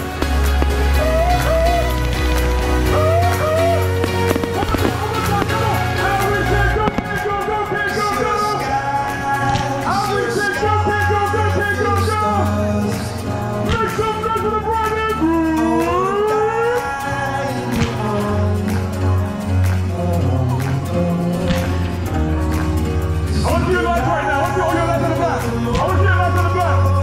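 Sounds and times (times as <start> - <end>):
pulsing bass line: 0.0 - 27.0
song with sung melody: 0.0 - 27.0.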